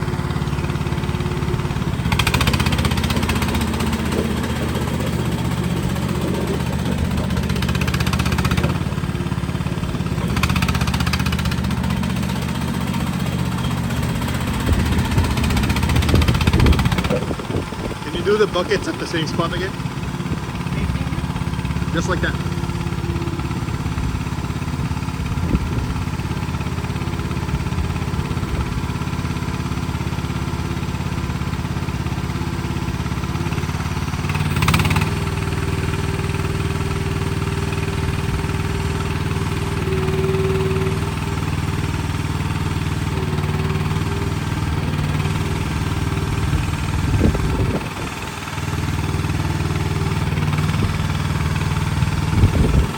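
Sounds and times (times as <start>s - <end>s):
skid steer engine running: 0.0s - 52.9s.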